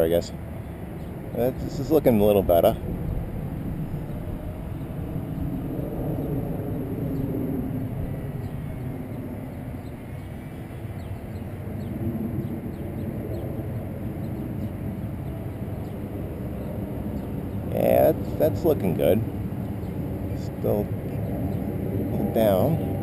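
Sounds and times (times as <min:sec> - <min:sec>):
distant model plane motor whine: 0:00.0 - 0:23.0
wind on microphone: 0:00.0 - 0:23.0.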